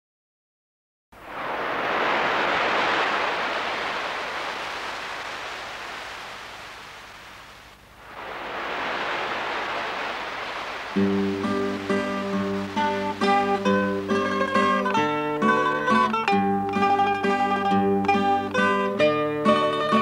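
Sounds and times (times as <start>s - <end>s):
sea waves washing in: 1.2s - 19.0s.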